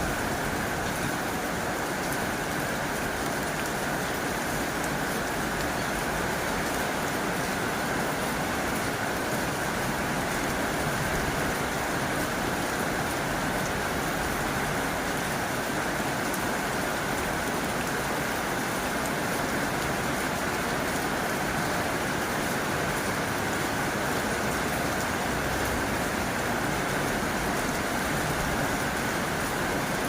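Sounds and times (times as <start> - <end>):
heavy rain on a tin roof: 0.0 - 30.0.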